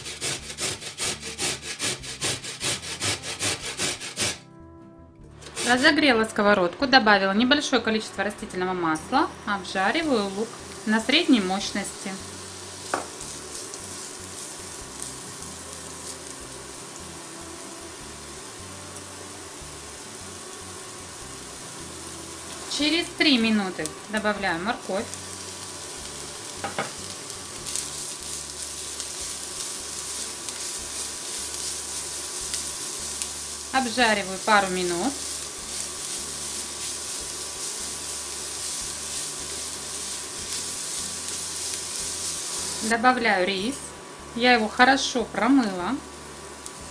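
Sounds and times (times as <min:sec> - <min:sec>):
onion sizzling in a frying pan: 0:00.0 - 0:04.5, 0:05.4 - 0:06.4, 0:07.0 - 0:46.9.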